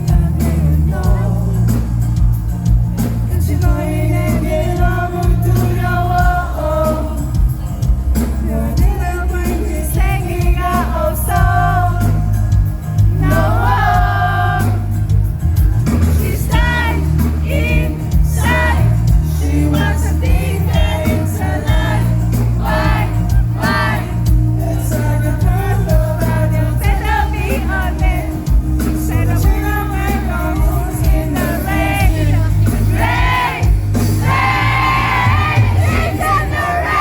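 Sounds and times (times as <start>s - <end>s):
live pop-rock band playing: 0.0s - 37.0s
man singing lead vocal: 0.0s - 37.0s.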